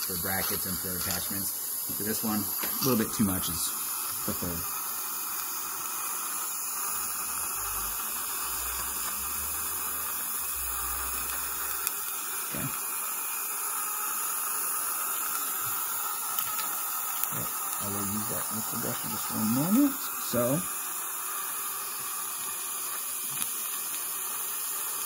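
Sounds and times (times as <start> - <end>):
dental suction hissing: 0.0 - 25.0.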